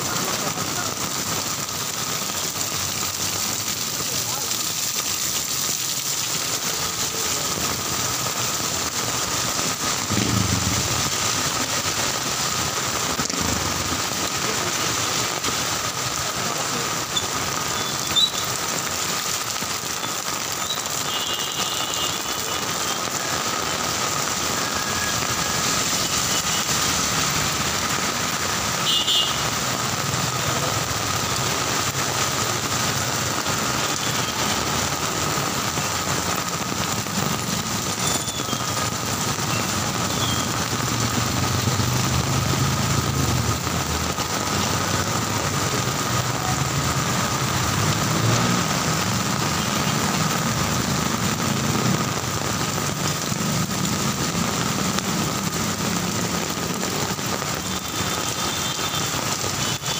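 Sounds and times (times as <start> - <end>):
heavy rain pouring: 0.0 - 59.9
traffic on wet road: 0.0 - 59.9.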